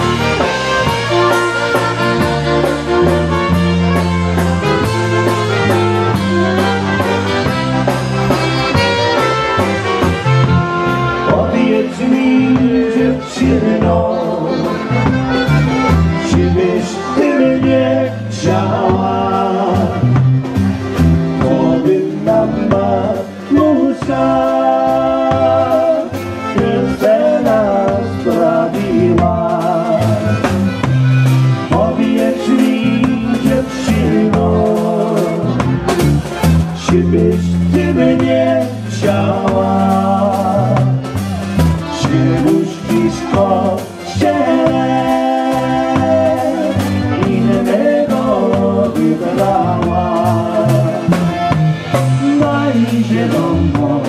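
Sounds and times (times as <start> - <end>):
concertina: 0.0 - 54.0
drums: 0.0 - 54.0
electric bass: 0.0 - 54.0
saxophone: 0.0 - 54.0.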